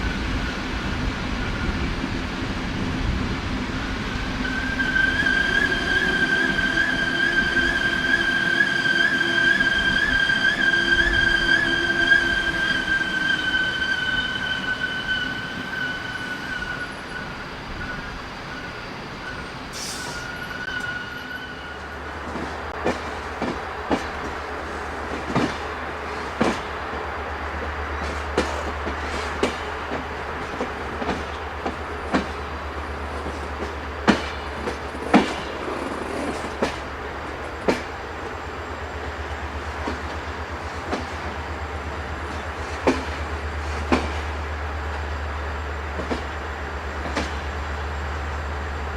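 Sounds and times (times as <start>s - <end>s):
low train rumble: 0.0s - 48.9s
train wheels squealing: 0.3s - 2.1s, 4.4s - 22.7s, 28.0s - 48.9s.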